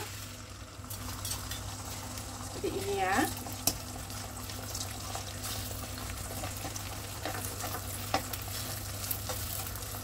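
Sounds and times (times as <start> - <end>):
egg sizzling in oil: 0.0 - 10.0.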